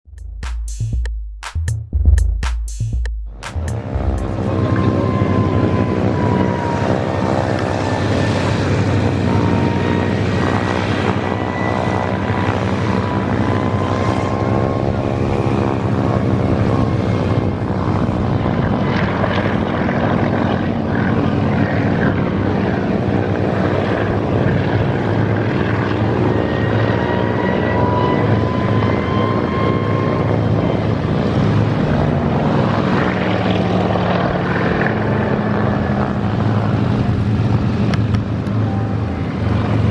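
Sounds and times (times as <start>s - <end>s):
helicopter engines and rotors: 3.3s - 39.9s.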